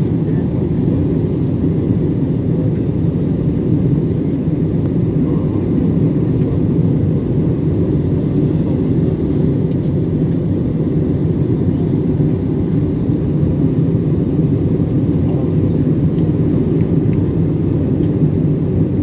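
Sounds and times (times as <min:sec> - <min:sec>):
jet airliner cabin drone: 0:00.0 - 0:19.0.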